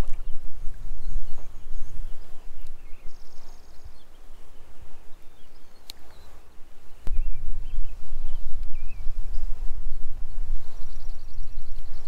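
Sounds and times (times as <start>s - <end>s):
faint bird chirps: 0.0s - 12.0s
wind rumbling on microphone: 0.0s - 12.0s.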